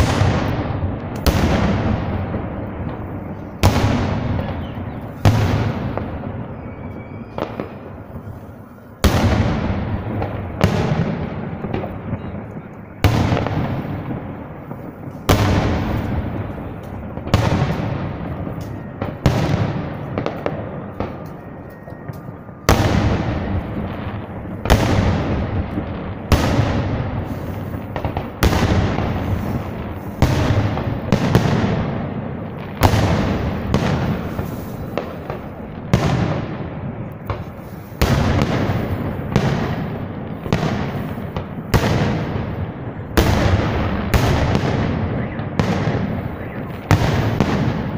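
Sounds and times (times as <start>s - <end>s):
fireworks bursting with bangs: 0.0s - 47.9s.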